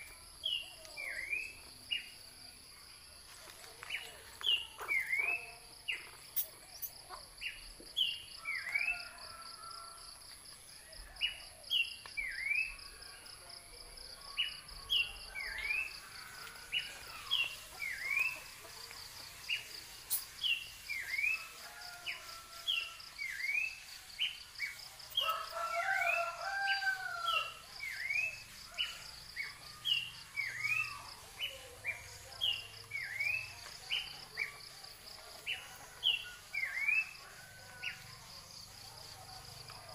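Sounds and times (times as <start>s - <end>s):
insect trill and whine: 4.3s - 39.8s.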